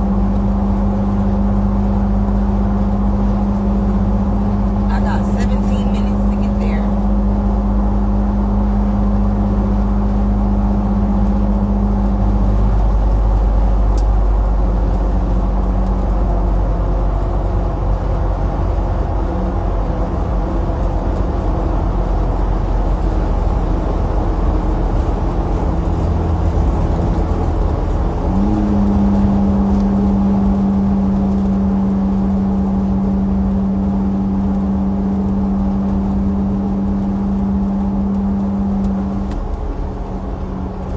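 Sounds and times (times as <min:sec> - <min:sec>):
constant hum: 0:00.0 - 0:40.9
low mechanical rumble: 0:00.0 - 0:40.9.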